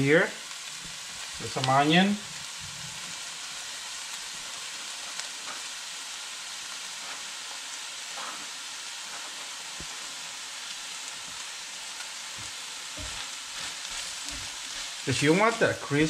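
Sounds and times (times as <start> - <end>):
fish and onion sizzling in oil: 0.0 - 16.0.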